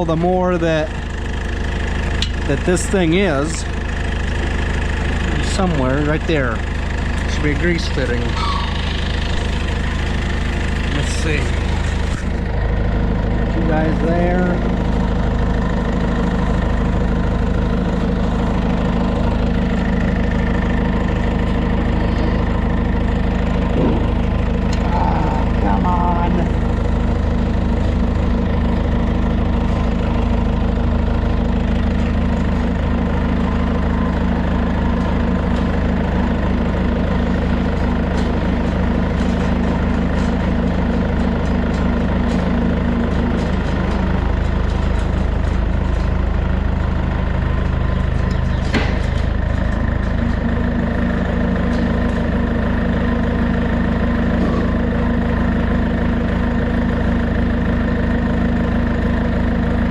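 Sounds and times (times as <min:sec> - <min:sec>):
loader engine idling: 0:00.0 - 0:59.9.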